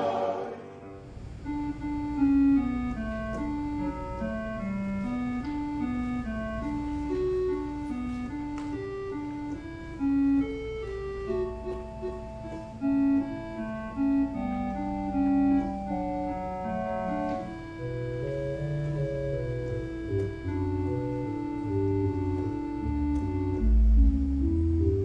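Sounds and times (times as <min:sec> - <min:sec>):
organ chords: 0:00.0 - 0:25.0
low organ bass notes: 0:00.9 - 0:25.0.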